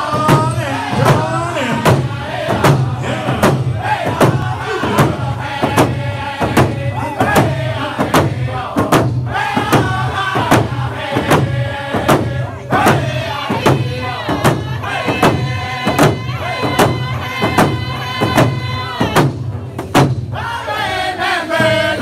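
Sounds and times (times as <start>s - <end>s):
hand drums beating: 0.0s - 20.4s
group chanting a song: 0.0s - 22.0s.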